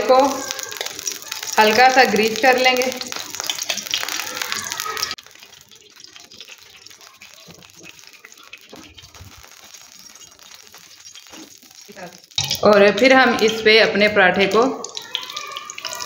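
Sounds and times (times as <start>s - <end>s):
oil sizzling in a frying pan: 0.0s - 16.0s.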